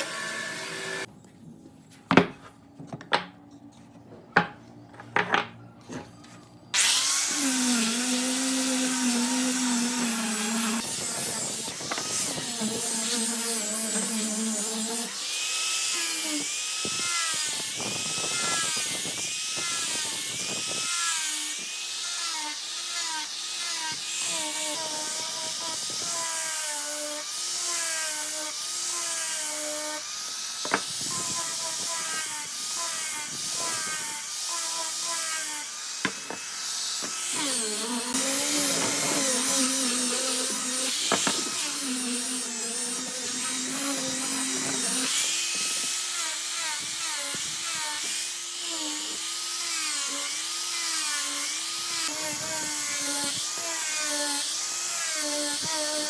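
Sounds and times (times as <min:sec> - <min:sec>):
power tool whining on wood: 0:00.0 - 0:01.1, 0:06.7 - 0:56.0.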